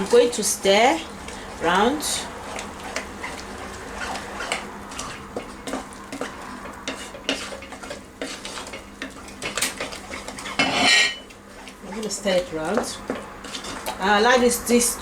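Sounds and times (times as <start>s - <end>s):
utensil scraping a pot: 0.0s - 15.0s.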